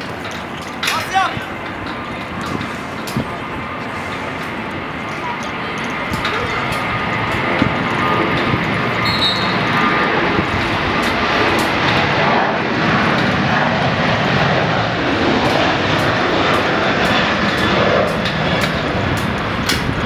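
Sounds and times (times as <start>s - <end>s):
airplane flying over: 0.0s - 20.0s.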